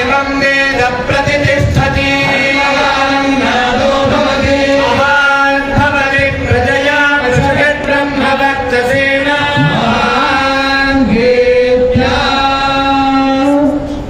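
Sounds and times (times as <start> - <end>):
group chanting hymns: 0.0 - 14.0.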